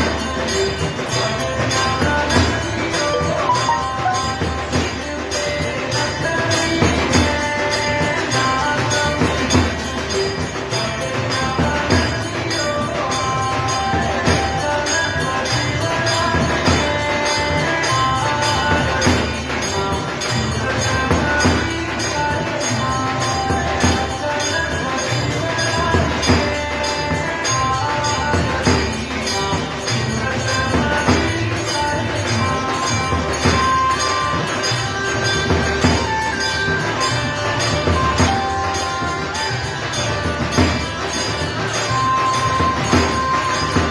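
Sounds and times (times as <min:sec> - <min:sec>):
jingling percussion: 0:00.0 - 0:43.9.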